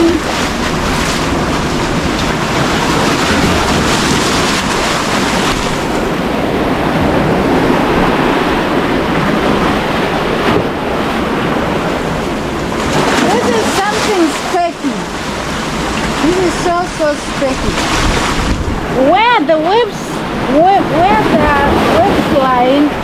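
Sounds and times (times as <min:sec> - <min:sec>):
surf breaking on rocky shore: 0:00.0 - 0:23.0
wind buffeting microphone: 0:00.0 - 0:23.0.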